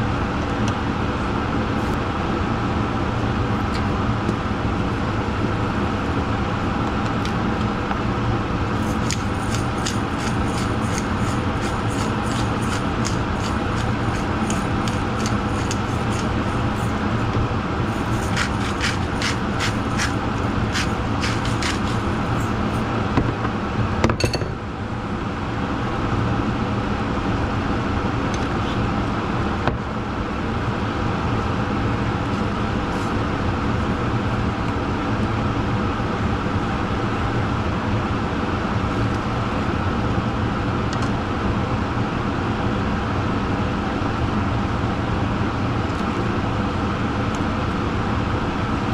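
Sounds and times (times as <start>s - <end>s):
vehicle engine hum: 0.0s - 48.9s.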